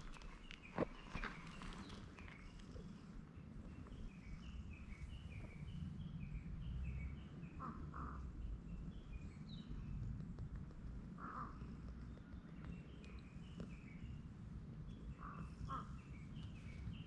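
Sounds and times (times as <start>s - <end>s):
songbird chirping: 0.0s - 17.0s
steady low rumble: 0.0s - 17.0s.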